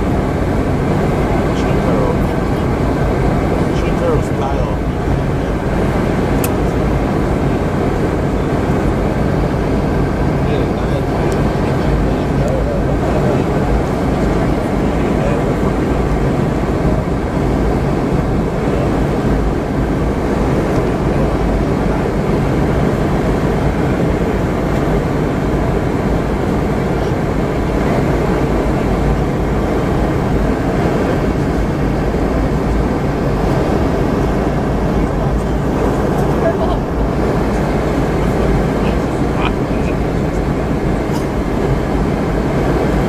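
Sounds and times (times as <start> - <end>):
airflow rushing: 0.0 - 43.0
jet engines humming: 0.0 - 43.0.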